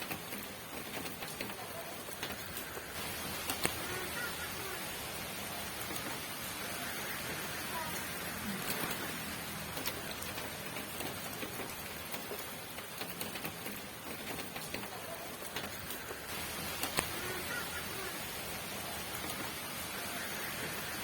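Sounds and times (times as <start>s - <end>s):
rain falling: 0.0s - 21.0s
raindrop taps: 0.0s - 21.0s.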